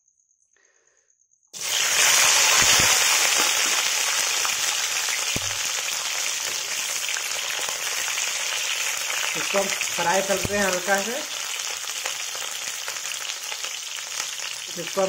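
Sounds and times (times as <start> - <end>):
food sizzling in hot oil: 1.6 - 15.0.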